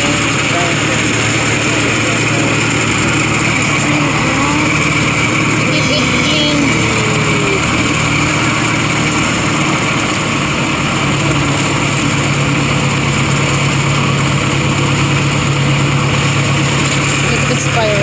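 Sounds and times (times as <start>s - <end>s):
miniature train engine droning: 0.0s - 18.0s.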